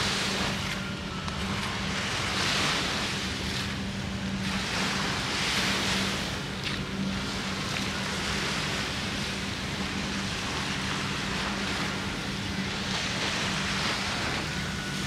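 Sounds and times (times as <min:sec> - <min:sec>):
low engine hum: 0:00.0 - 0:15.0
surf washing: 0:00.0 - 0:15.0.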